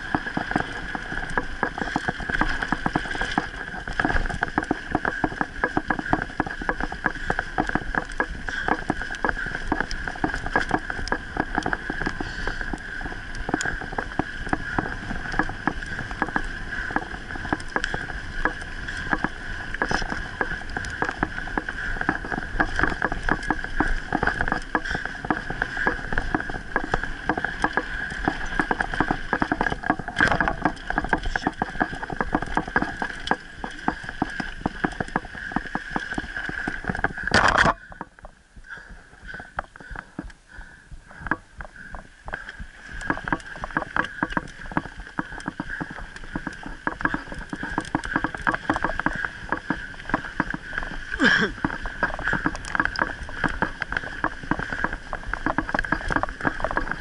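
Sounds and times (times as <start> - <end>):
bike clattering and rattling: 0.0 - 57.0
tyres rolling on dirt: 0.0 - 57.0.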